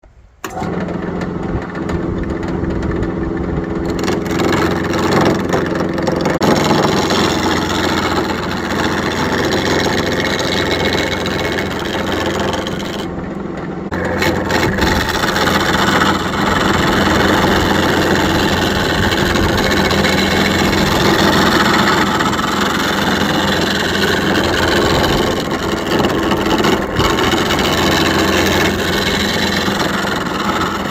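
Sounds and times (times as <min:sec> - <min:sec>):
turning tool cutting wood: 0:00.4 - 0:30.9
wood lathe running: 0:00.4 - 0:30.9.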